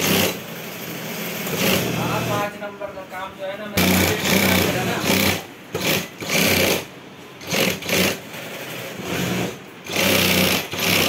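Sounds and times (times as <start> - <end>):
sewing machine stitching: 0.0 - 2.5, 3.8 - 11.0.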